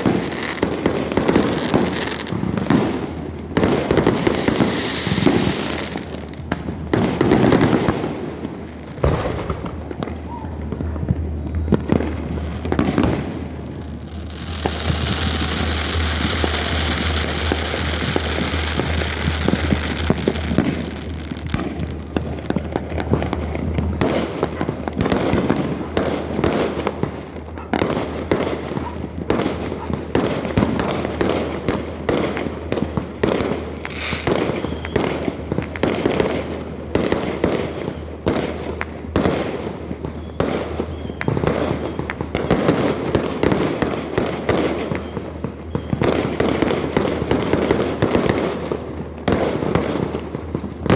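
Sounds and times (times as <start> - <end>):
fireworks crackling and banging: 0.0 - 50.9.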